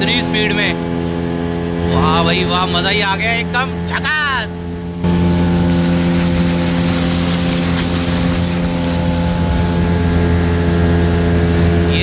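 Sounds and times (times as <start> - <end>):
rushing water: 0.0 - 12.0
speedboat engine running: 0.0 - 12.0
wind: 0.0 - 12.0.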